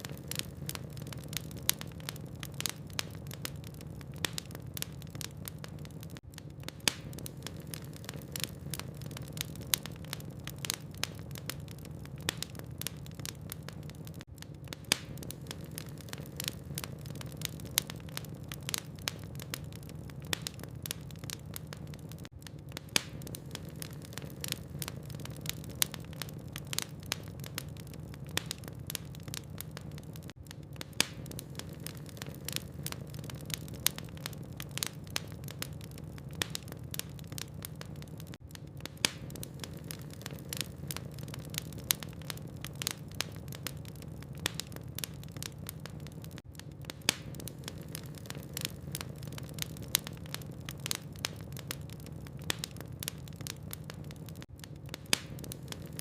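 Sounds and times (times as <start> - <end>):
fireplace logs crackling: 0.0 - 56.0.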